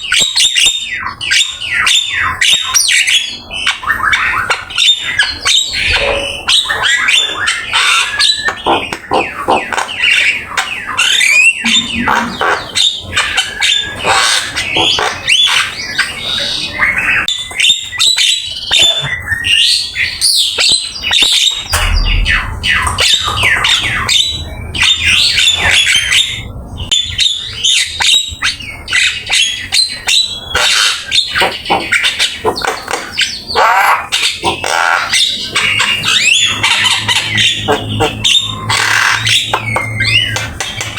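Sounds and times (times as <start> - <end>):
myna bird singing: 0.0 - 40.9.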